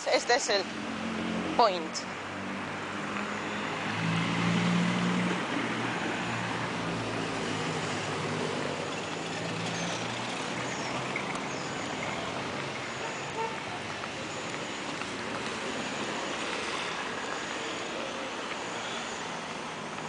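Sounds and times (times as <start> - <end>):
passing traffic: 0.0 - 20.0
vehicle engine humming: 0.0 - 20.0.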